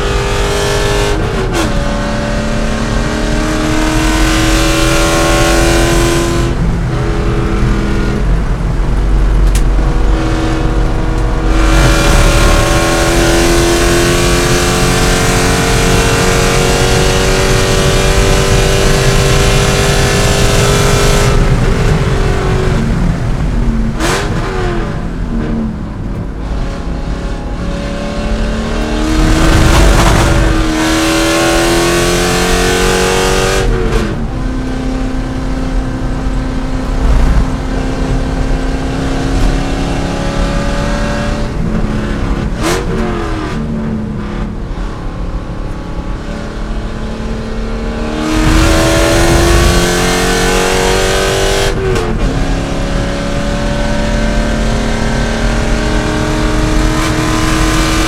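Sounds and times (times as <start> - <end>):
car engine revving at race pace: 0.0 - 58.0.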